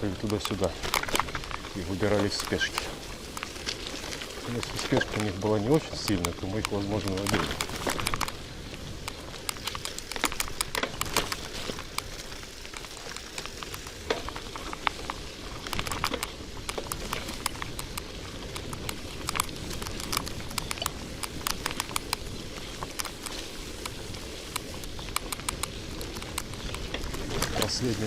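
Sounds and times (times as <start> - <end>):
bicycle tyres hissing through mud: 0.0 - 28.0
bike clicks and rattles: 0.0 - 28.0.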